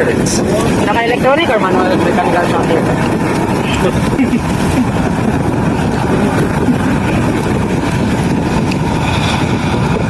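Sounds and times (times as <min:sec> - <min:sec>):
aircraft engines rumbling: 0:00.0 - 0:10.0.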